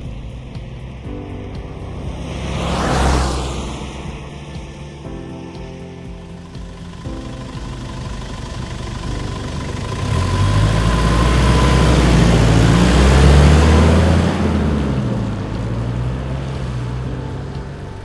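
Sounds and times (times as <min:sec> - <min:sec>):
diesel engine accelerating: 0:00.0 - 0:18.0.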